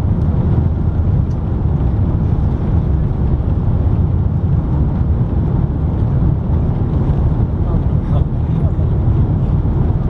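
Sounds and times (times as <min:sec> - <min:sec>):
jet cabin engine rumble: 0:00.0 - 0:10.0.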